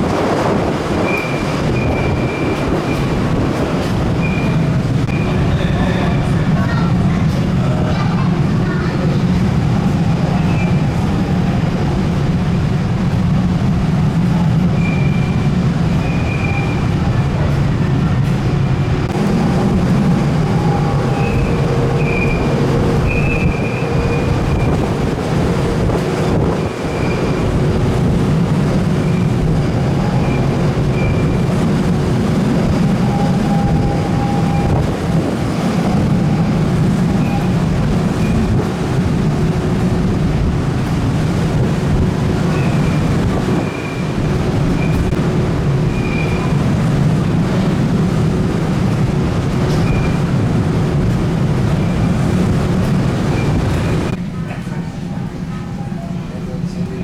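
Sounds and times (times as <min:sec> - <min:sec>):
ferry engine rumble: 0:00.0 - 0:57.0.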